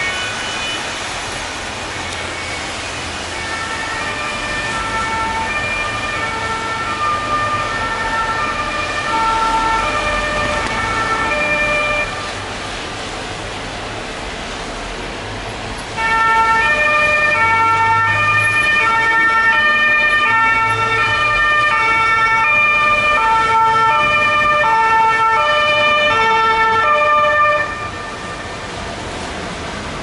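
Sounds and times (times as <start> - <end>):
two-tone police sirens: 0.0 - 13.1, 16.0 - 29.2
road traffic noise: 0.0 - 30.0.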